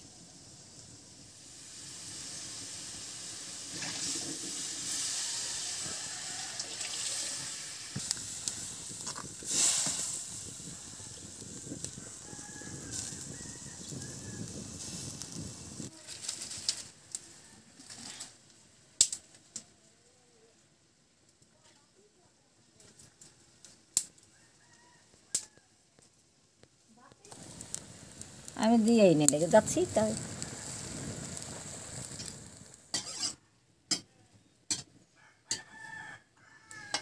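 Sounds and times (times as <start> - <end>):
greens simmering hiss: 0.0 - 37.0.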